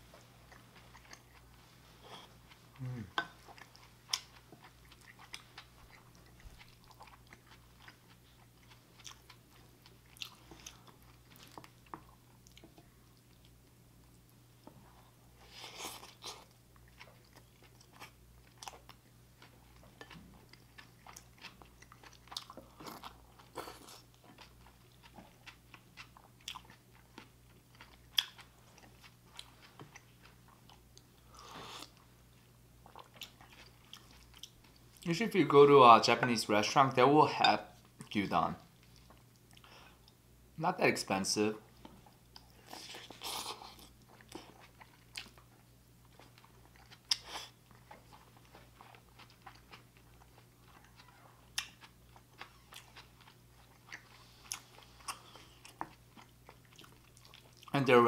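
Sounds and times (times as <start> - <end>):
faint low hum: 0.0 - 58.0
person chewing: 0.1 - 14.2, 14.8 - 35.1, 37.7 - 40.2, 41.7 - 57.8.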